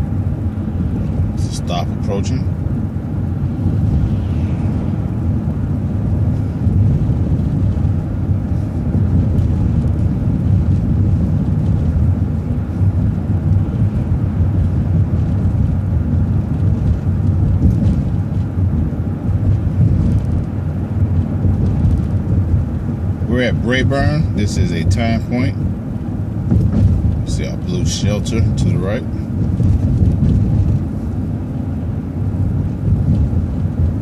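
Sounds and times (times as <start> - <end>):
bus engine rumble: 0.0 - 34.0
road noise: 0.0 - 34.0.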